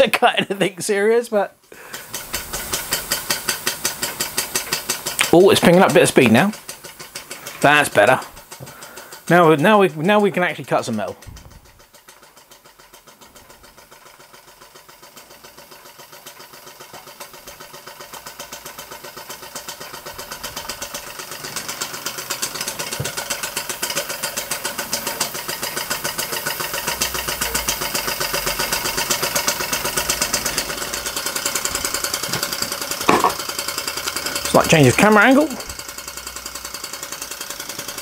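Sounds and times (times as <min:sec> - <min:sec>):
model steam engine chuffing: 0:00.0 - 0:38.0.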